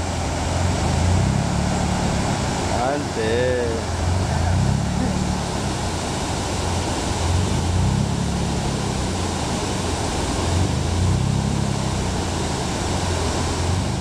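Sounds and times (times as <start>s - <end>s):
river water pouring over weir: 0.0s - 14.0s.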